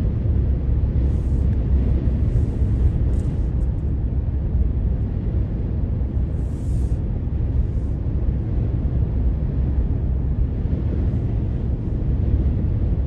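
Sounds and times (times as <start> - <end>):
car road and tyre noise: 0.0 - 13.0.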